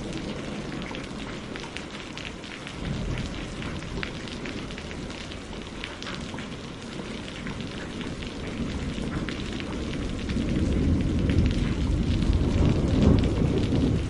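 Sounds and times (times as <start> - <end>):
low rumble of thunder: 0.0 - 14.0
rain on greenhouse roof: 0.0 - 14.0.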